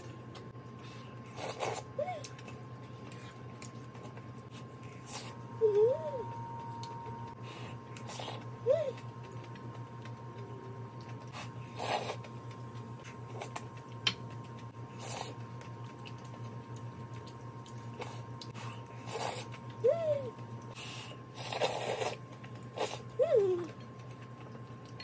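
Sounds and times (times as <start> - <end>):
slurping and chewing: 0.0 - 5.5, 7.3 - 19.8, 20.6 - 25.0
low hum: 0.0 - 25.0.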